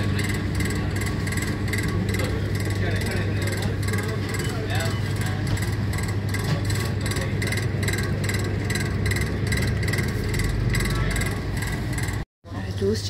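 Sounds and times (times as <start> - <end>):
machine hum with pulsing whir: 0.0 - 13.0.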